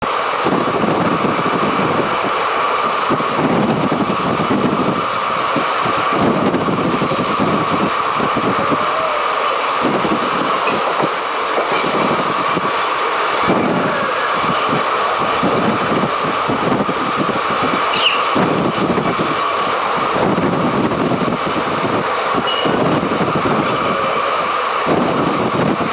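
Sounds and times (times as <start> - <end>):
train rumbling and rattling on rails: 0.0 - 25.9.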